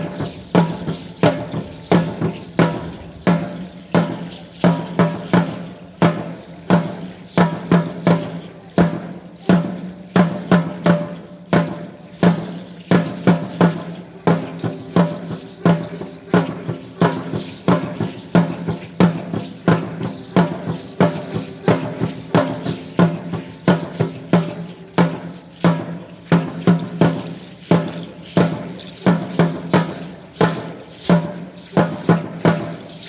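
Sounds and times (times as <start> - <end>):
deep drum beaten rhythmically: 0.0 - 33.0.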